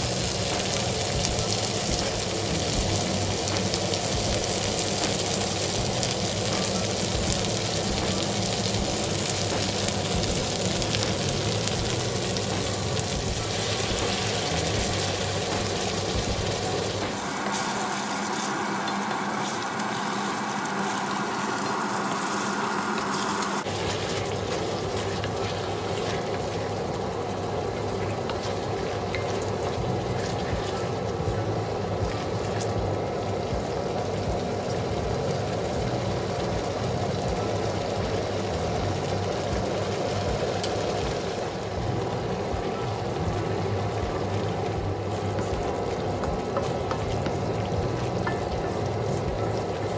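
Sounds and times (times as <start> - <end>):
vegetables sizzling in a wok: 0.0 - 49.9.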